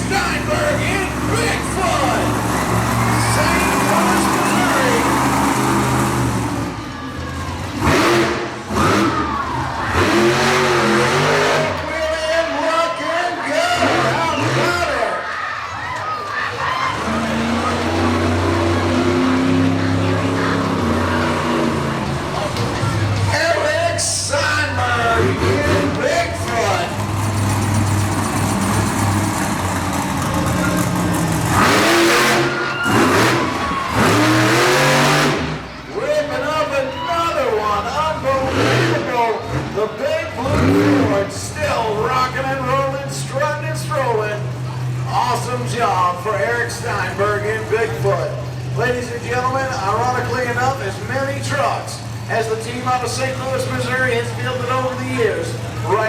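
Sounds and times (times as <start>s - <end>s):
monster truck engine revving: 0.0s - 56.0s.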